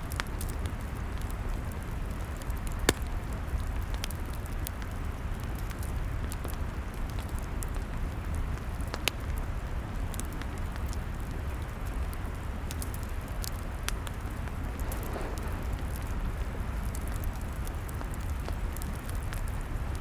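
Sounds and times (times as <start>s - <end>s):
log fire crackling: 0.0s - 20.0s
fire pops and snaps: 0.1s - 9.4s, 10.0s - 20.0s.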